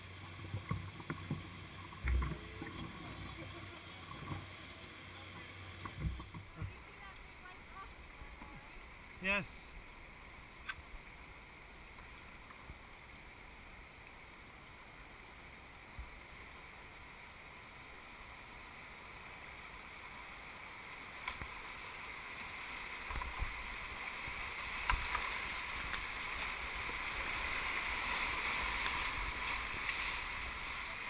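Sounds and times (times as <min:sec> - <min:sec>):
rushing whitewater: 0:01.2 - 0:31.0.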